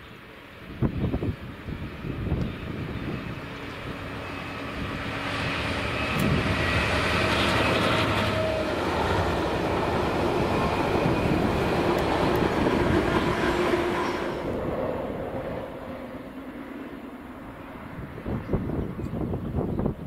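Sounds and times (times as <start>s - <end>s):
freight train passing: 0.0s - 20.0s.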